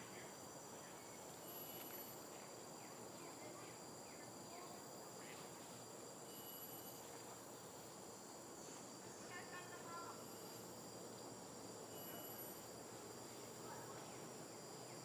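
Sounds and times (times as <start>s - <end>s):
high-pitched insect trills: 0.0s - 15.0s.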